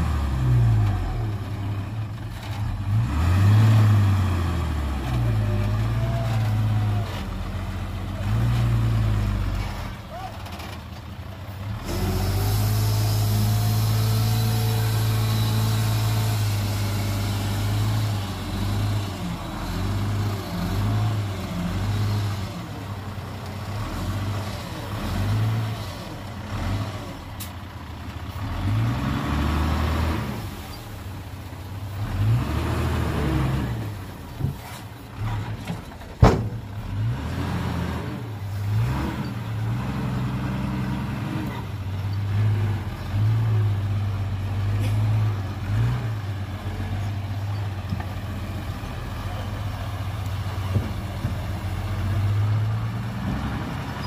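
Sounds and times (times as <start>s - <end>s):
heavy diesel engines revving: 0.0s - 54.0s.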